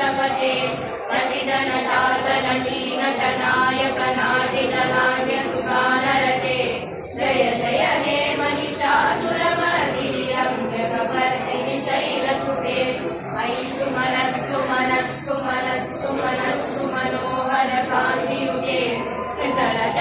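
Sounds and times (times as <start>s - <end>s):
women singing a hymn in unison: 0.0s - 20.0s.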